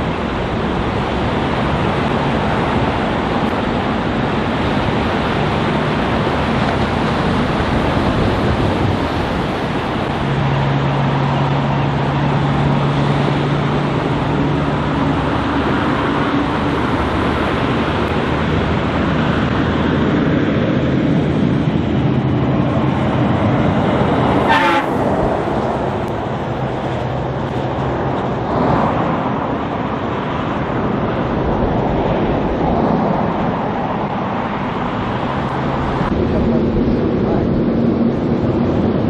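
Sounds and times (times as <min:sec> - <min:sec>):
truck engine drone: 0:00.0 - 0:39.0
truck rushing past: 0:00.0 - 0:39.0.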